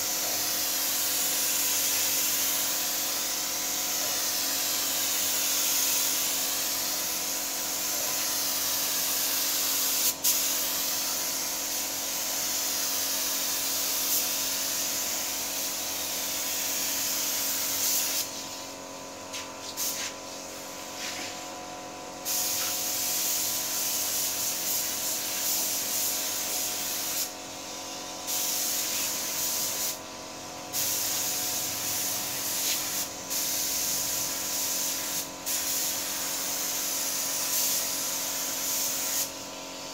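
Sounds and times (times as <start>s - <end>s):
paint spray gun hissing: 0.0s - 39.9s.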